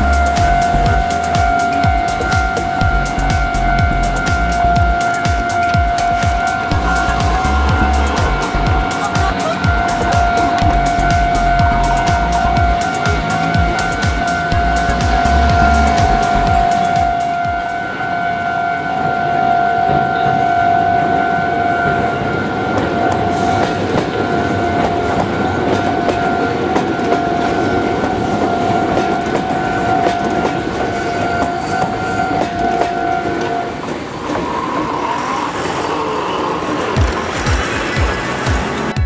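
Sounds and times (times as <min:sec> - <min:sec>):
train wheels clattering on rails: 0:00.0 - 0:18.2, 0:19.0 - 0:39.0
level crossing alarm ringing: 0:00.0 - 0:38.1.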